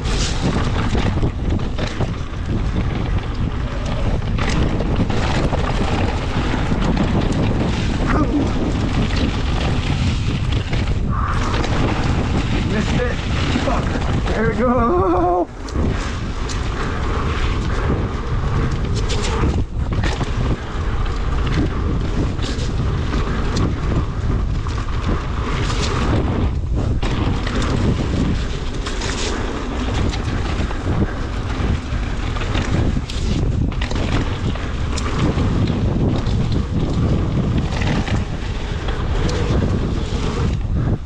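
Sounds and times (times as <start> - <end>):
bike knocks and rattles: 0.0 - 41.0
bike tyre noise: 0.0 - 41.0
wind buffeting microphone: 0.0 - 41.0.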